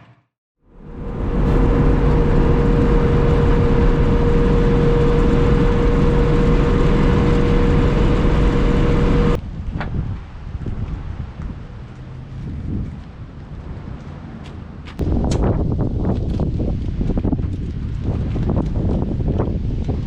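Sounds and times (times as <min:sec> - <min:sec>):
truck engine with high whine: 0:00.6 - 0:20.0
windy vehicle noise: 0:00.6 - 0:20.0.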